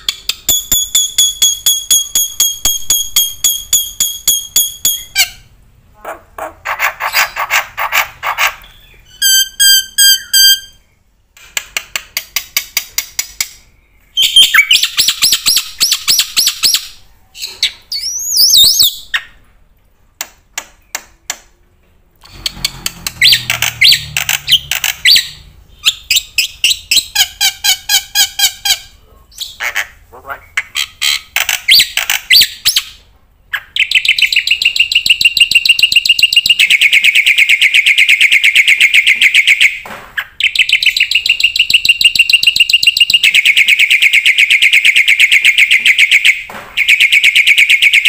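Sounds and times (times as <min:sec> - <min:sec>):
bird singing: 0:00.0 - 0:11.1, 0:13.6 - 0:19.4, 0:22.3 - 0:32.9, 0:33.5 - 0:48.0.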